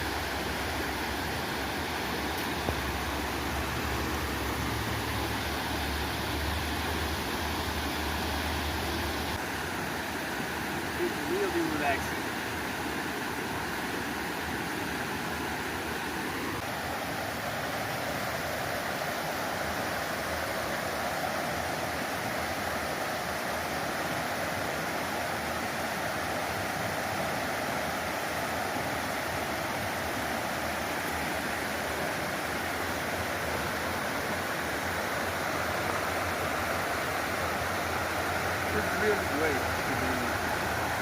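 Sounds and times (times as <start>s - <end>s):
stream rushing: 0.0s - 41.0s.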